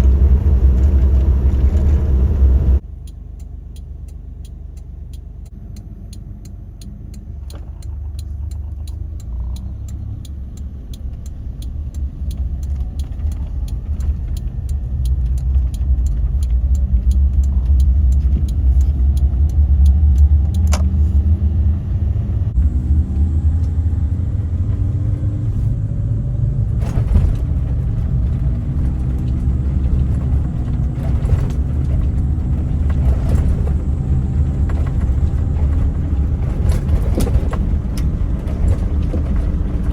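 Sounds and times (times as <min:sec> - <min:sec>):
car engine rumbling while driving: 0:00.0 - 0:39.9.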